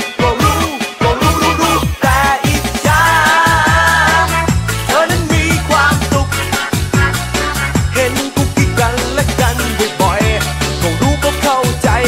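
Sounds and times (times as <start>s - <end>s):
electronic dance pop music: 0.0s - 12.0s.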